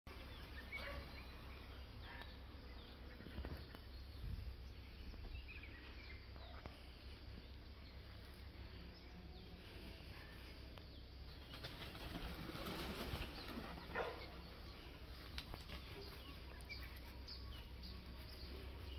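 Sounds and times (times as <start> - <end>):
rustling in tree canopy: 0.1 - 18.9.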